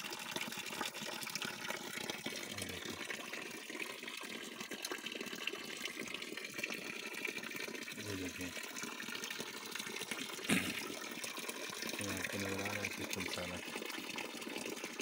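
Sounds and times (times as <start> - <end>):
water running from a pipe: 0.0 - 15.0.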